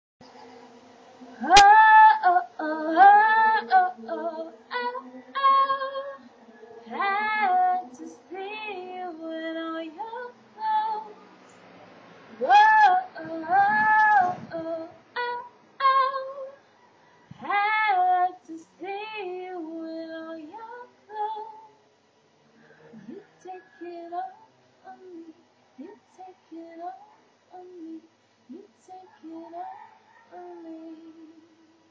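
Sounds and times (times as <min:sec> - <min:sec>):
faint steady hum: 0:00.2 - 0:31.9
woman singing slow melody: 0:01.2 - 0:11.2, 0:12.3 - 0:16.6, 0:17.3 - 0:21.8, 0:23.0 - 0:31.9.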